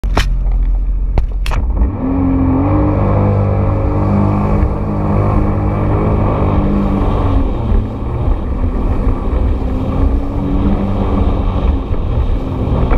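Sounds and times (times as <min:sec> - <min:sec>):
jet ski engine revving: 0:00.9 - 0:12.9.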